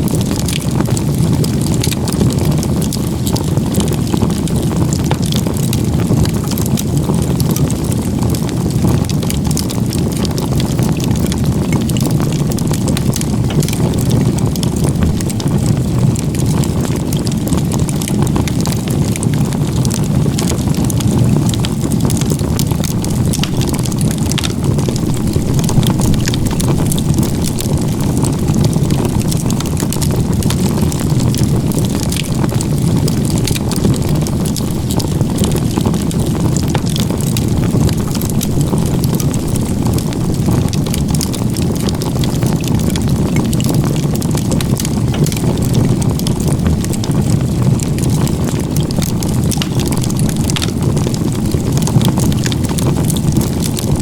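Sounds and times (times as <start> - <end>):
fire crackling and popping: 0.0 - 54.0
fire flames rushing: 0.0 - 54.0.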